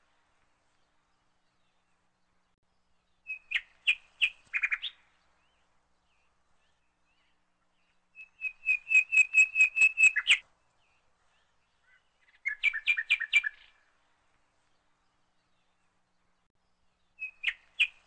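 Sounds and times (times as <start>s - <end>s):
bird chirping: 1.4s - 13.9s, 14.8s - 18.0s.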